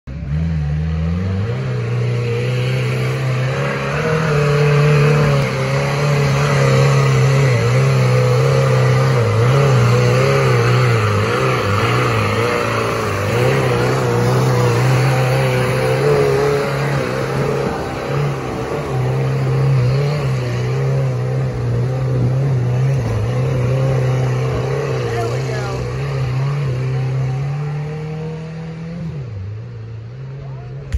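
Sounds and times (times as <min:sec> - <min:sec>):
engine revving at high revs: 0:00.1 - 0:29.5.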